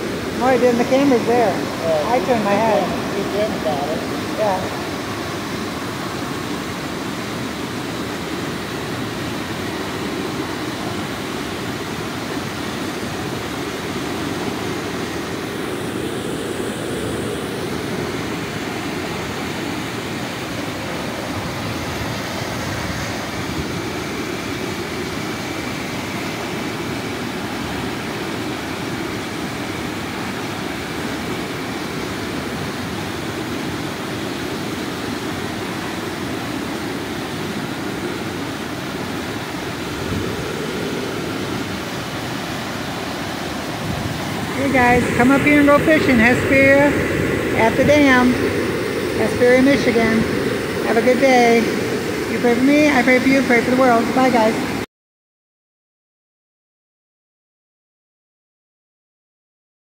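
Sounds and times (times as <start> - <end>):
water rushing over spillway: 0.0 - 54.8.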